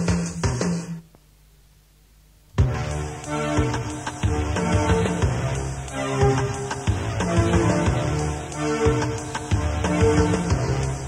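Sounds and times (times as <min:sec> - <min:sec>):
music with drums and heavy bass: 0:00.0 - 0:01.0, 0:02.6 - 0:11.0.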